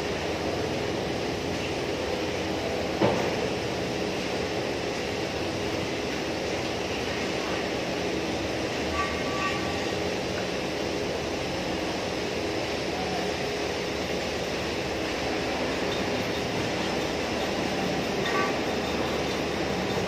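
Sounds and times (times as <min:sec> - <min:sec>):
steady mechanical drone: 0:00.0 - 0:20.0.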